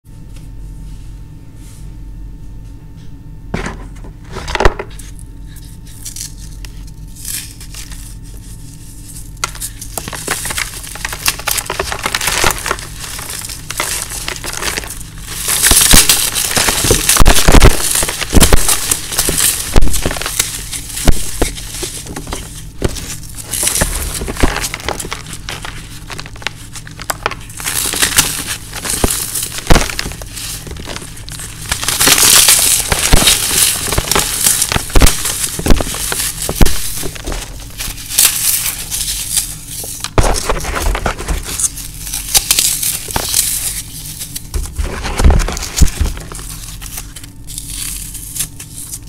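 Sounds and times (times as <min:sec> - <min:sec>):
floral foam crunching: 0:05.8 - 0:49.0.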